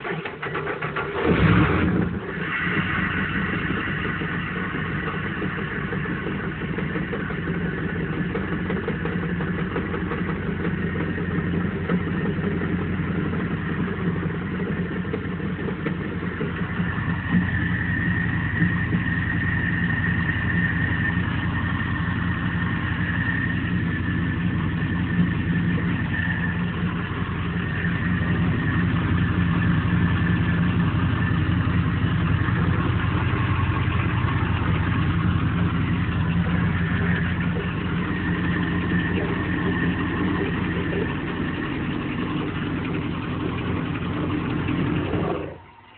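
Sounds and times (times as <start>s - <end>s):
boat engine idling: 0.0s - 45.9s
high whine: 1.4s - 45.9s.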